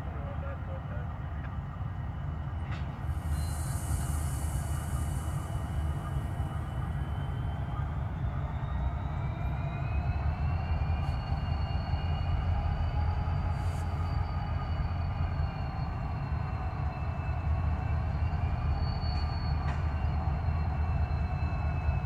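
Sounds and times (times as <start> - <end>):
locomotive engines idling: 0.0 - 22.0
faint high whine: 2.8 - 22.0.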